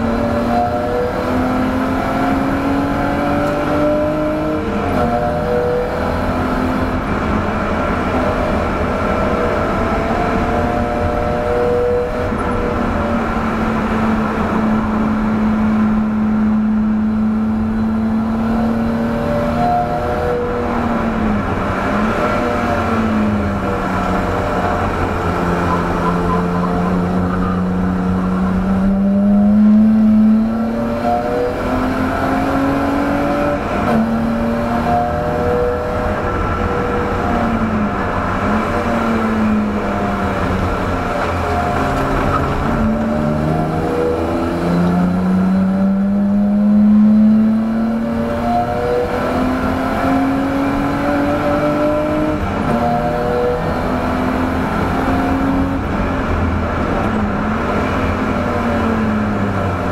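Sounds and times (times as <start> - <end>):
car engine revving at speed: 0.0 - 59.9.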